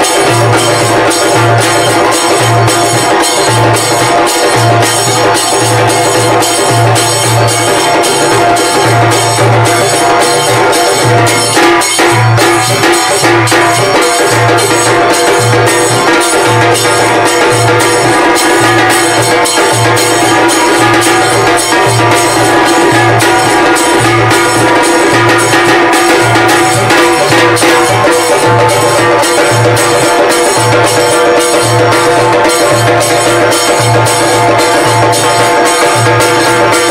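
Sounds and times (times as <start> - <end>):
music with percussive beat: 0.0 - 36.9.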